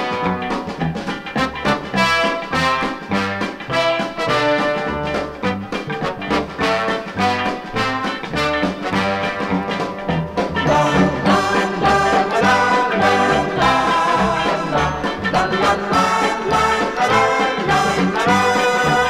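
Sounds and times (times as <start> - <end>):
up-tempo brass band music: 0.0 - 19.0.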